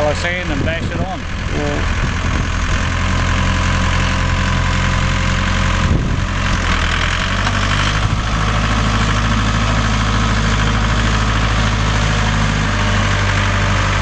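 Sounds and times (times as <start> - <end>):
engine knock: 0.0 - 14.0
tractor diesel engine idling: 0.0 - 14.0.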